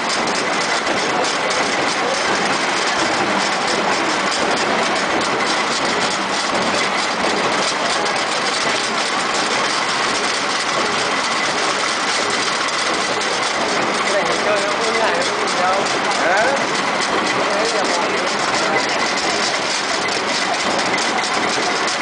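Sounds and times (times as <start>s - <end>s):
high steady whine: 0.0s - 22.0s
paper cutting machine running: 0.0s - 22.0s.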